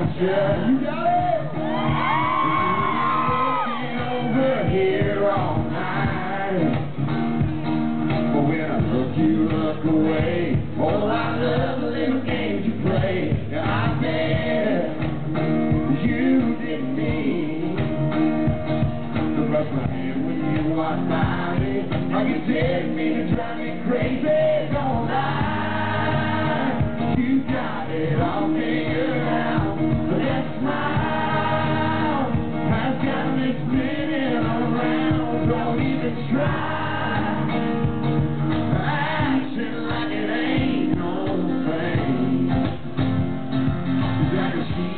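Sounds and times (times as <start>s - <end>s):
men singing: 0.0s - 7.0s, 8.2s - 18.2s, 19.2s - 42.9s, 44.0s - 44.9s
acoustic guitars strumming: 0.0s - 44.9s.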